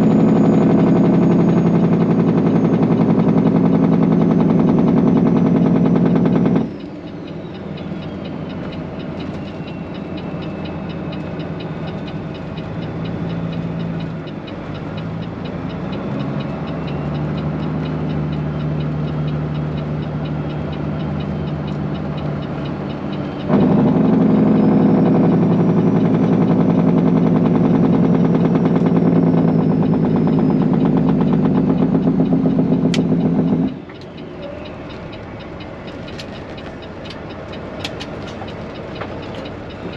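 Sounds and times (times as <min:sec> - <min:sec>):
truck diesel engine pulling hard: 0:00.0 - 0:39.9.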